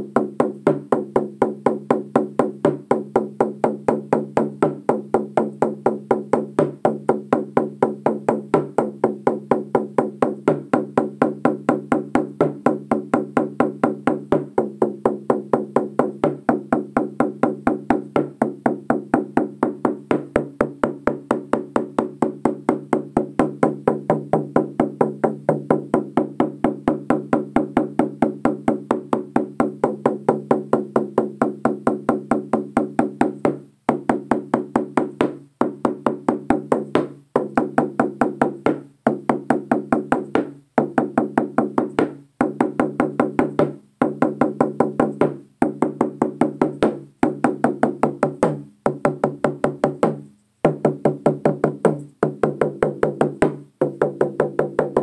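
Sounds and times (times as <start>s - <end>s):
frame drum beat: 0.0s - 55.0s.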